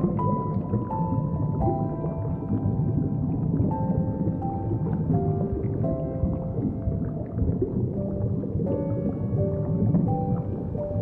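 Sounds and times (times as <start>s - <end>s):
low rumbling noise: 0.0s - 11.0s
slow melody of held notes: 0.0s - 11.0s.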